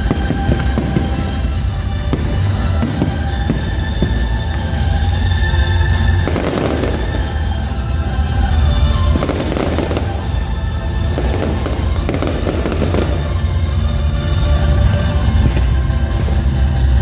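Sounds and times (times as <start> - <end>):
fireworks crackling: 0.0 - 17.0
loud music with heavy bass: 0.0 - 17.0.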